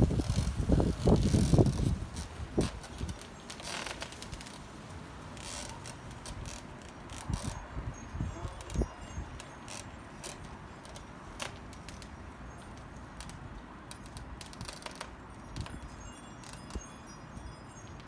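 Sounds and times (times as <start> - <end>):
wind chimes tinkling: 0.3 - 18.0.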